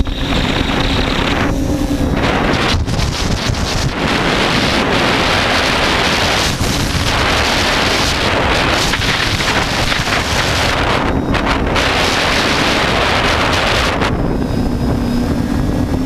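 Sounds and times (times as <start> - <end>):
drone motors and propellers: 0.0 - 16.0
wind rushing over microphone: 0.0 - 16.0.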